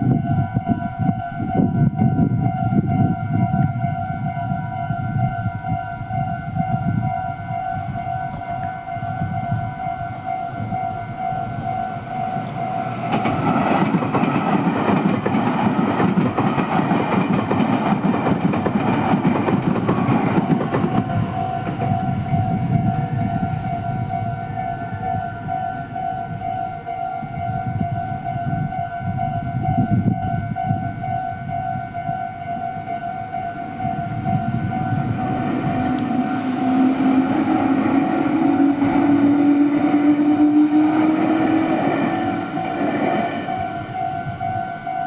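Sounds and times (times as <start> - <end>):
level crossing warning bell: 0.0 - 14.6, 19.8 - 45.0
train passing: 0.0 - 45.0.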